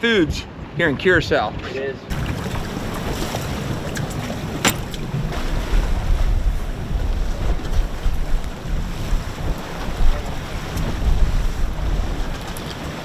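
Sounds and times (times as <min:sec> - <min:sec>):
wind buffeting microphone: 0:00.2 - 0:13.0
water rushing past hull: 0:02.1 - 0:13.0.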